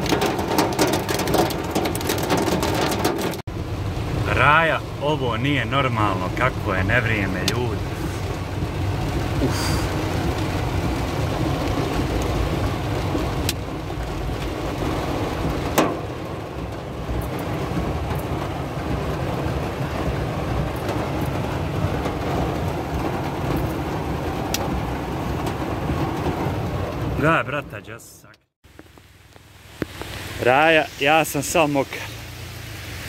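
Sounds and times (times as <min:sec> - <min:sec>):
hail and rain on car roof: 0:00.0 - 0:27.4.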